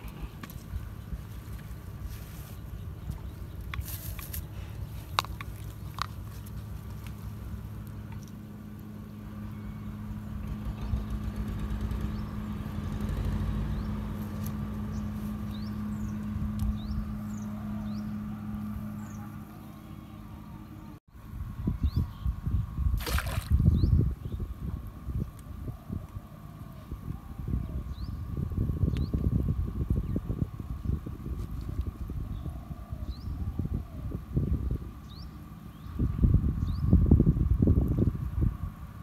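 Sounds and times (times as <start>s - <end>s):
distant motor drone: 4.4s - 39.0s.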